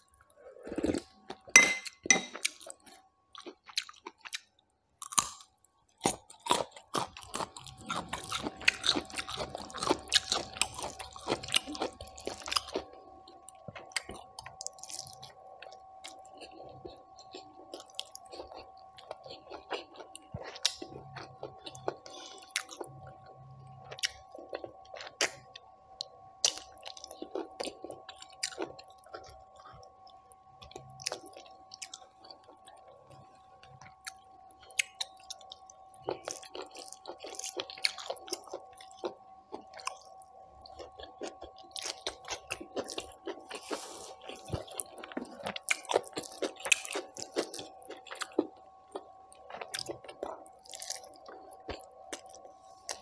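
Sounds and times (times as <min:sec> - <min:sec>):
faint hum: 0:00.0 - 0:53.0
wet chewing and smacks: 0:02.3 - 0:53.0.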